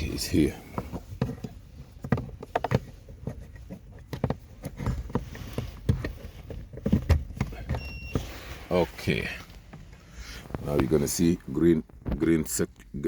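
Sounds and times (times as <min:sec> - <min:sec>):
light handling clicks and knocks: 0:00.0 - 0:08.3, 0:09.4 - 0:12.9.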